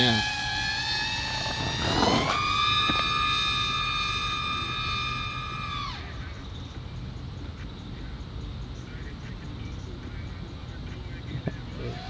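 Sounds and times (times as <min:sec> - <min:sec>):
quadcopter motors whining: 0:00.0 - 0:08.0, 0:09.4 - 0:12.0.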